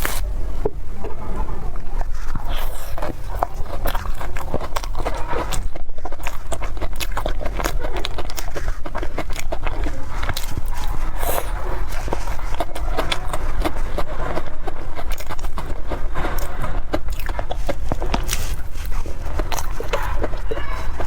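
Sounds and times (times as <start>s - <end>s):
chewing with mouth clicks: 0.0s - 21.0s.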